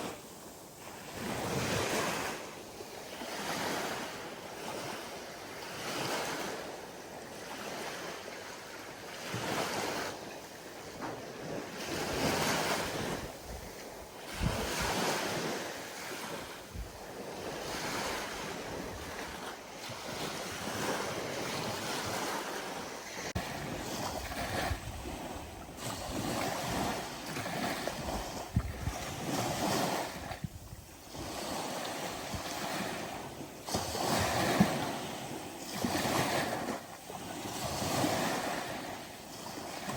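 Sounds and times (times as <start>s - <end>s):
ocean waves breaking on shore: 0.0s - 39.9s
wind on microphone: 0.0s - 39.9s.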